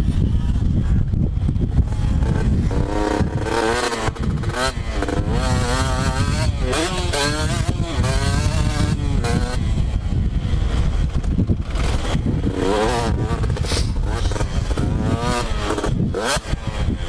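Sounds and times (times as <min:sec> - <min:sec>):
wind on microphone: 0:00.0 - 0:17.0
motocross bike engine revving: 0:01.4 - 0:17.0.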